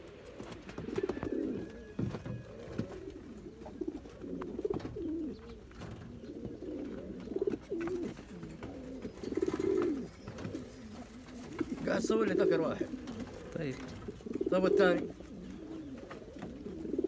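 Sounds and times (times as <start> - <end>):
pigeon cooing: 0.0 - 17.0.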